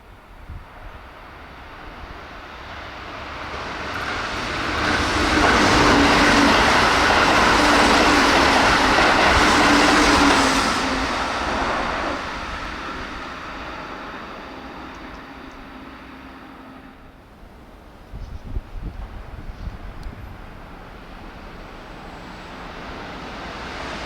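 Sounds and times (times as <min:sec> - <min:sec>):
electric train passing: 0:00.0 - 0:24.0
wheels rushing on rails: 0:00.1 - 0:24.0
train motor hum: 0:03.4 - 0:23.9.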